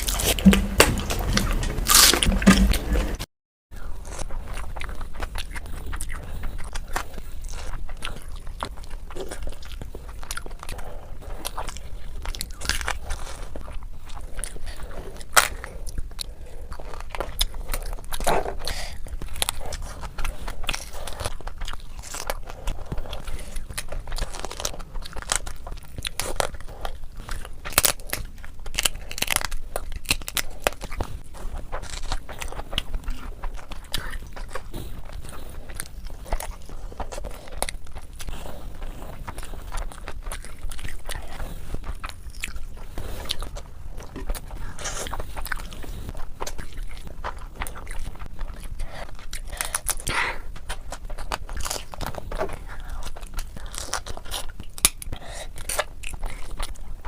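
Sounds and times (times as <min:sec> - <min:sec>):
chewing and biting: 0:00.0 - 0:03.2, 0:03.8 - 0:57.0
food crunching: 0:00.0 - 0:03.2, 0:03.8 - 0:57.0.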